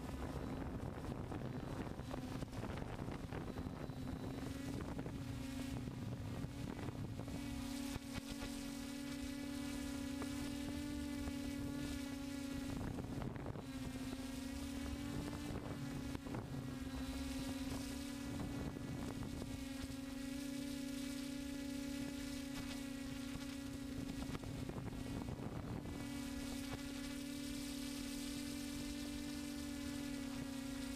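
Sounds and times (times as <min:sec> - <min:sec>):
drone propellers buzzing: 0:00.0 - 0:30.9
light wind noise: 0:00.0 - 0:30.9.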